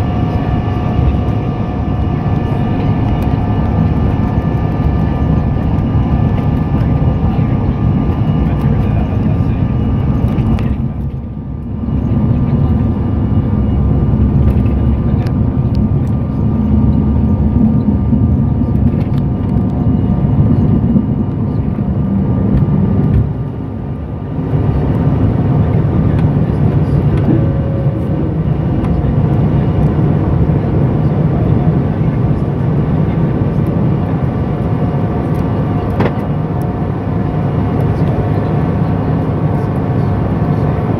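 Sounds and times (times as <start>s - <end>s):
jet engines low rumble: 0.0s - 40.9s.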